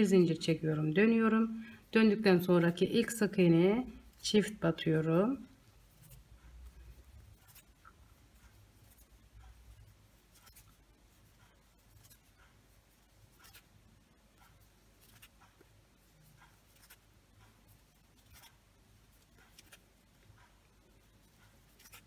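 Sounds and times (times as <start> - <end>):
crochet hook rustling yarn: 0.0 - 22.0
low steady hum: 0.0 - 22.0.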